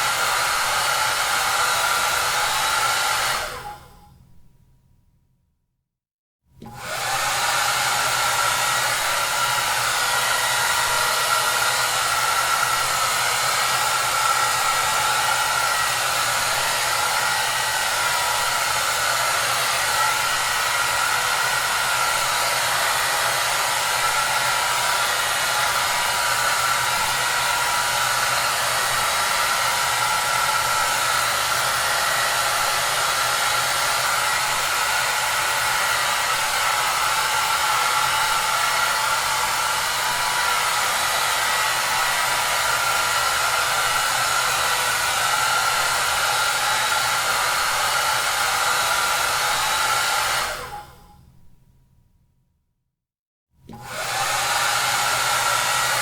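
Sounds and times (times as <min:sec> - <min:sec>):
hair dryer blowing: 0:00.0 - 0:04.1, 0:06.6 - 0:51.2, 0:53.6 - 0:56.0.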